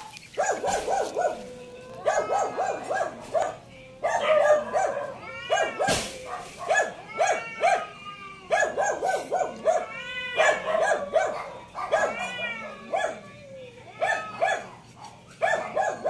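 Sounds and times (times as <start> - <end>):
animal yelping: 0.0 - 13.4, 14.0 - 16.0
animal arching cries: 0.0 - 14.8.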